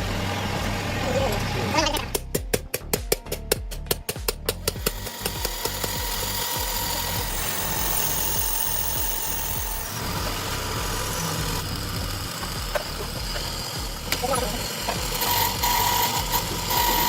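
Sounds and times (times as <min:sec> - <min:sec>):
machine running with low hum: 0:00.0 - 0:02.0, 0:04.6 - 0:17.0.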